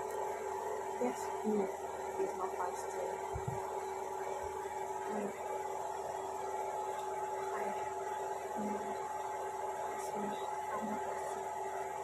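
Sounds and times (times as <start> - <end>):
electrical hum with steady tones: 0.0 - 12.0.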